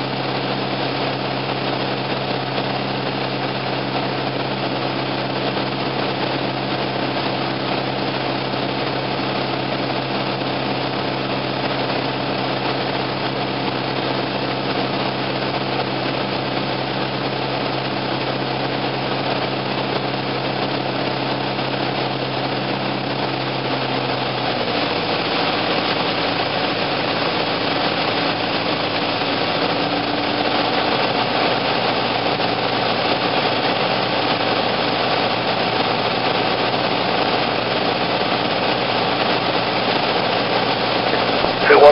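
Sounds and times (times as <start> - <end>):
aircraft engine droning: 0.0 - 41.9.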